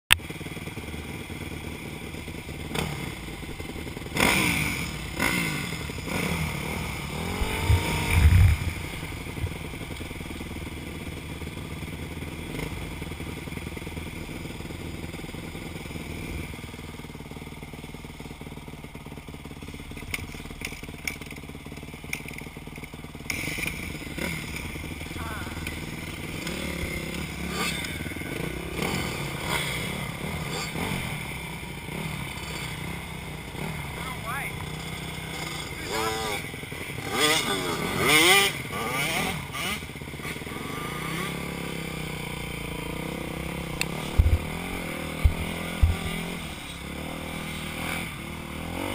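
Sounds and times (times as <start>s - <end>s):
dirt bike engine revving and idling: 0.1s - 48.9s.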